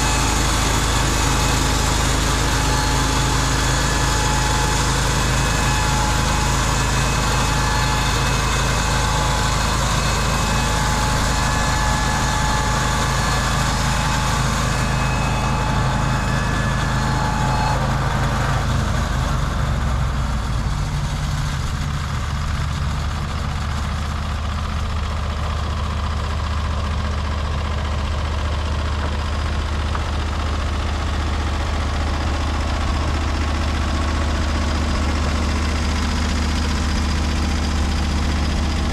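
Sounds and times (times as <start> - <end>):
band sawmill engine running: 0.0 - 38.9
high steady whine: 0.0 - 38.9.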